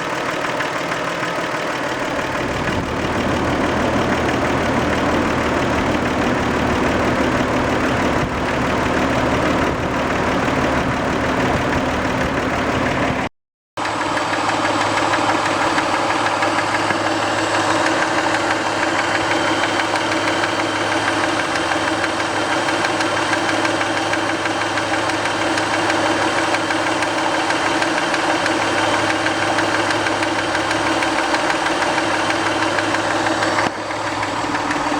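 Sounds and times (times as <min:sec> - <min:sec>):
car engine running with a knock: 0:02.0 - 0:34.9.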